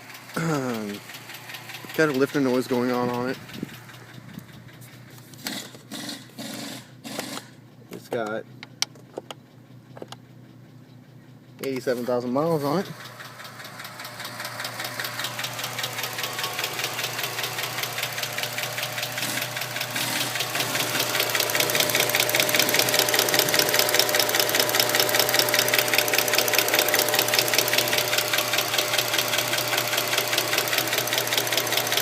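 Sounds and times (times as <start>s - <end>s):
car engine running: 0.0s - 32.0s
rapid engine ticking: 0.0s - 32.0s.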